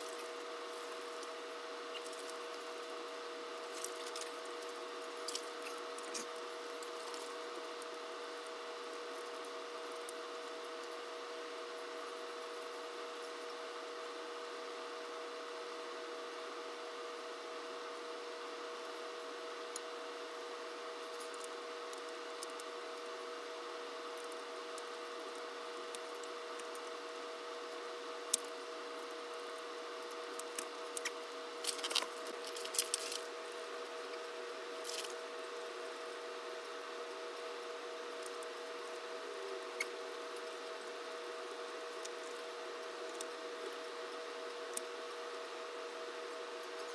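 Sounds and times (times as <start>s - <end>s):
two-tone hum: 0.0s - 46.9s.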